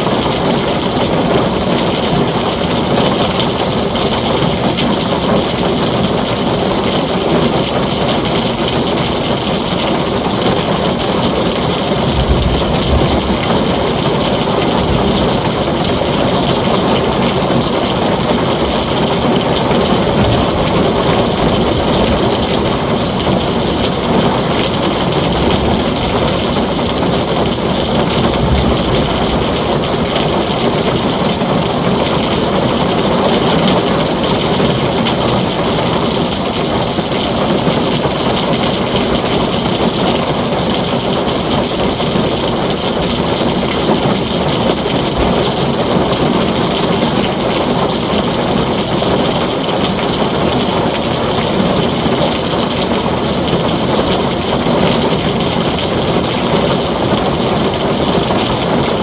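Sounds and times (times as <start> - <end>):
heavy rain on a tin roof: 0.0 - 59.0
low rumbles of thunder: 0.1 - 39.1, 40.6 - 59.0.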